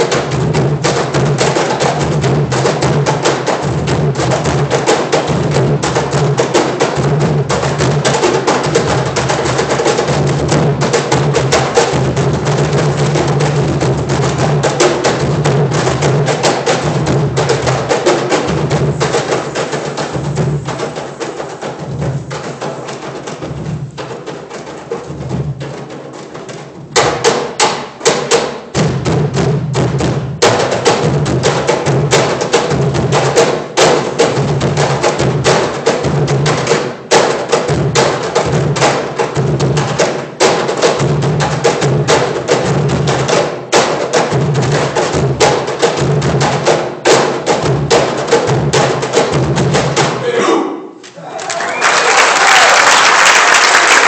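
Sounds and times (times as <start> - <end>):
cajones played in fast rhythm: 0.0 - 50.3, 51.6 - 54.0.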